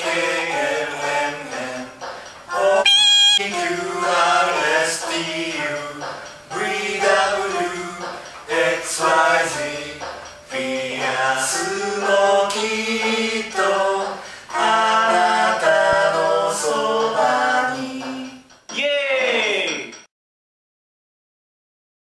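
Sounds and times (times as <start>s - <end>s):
a cappella singing voices: 0.0s - 18.7s.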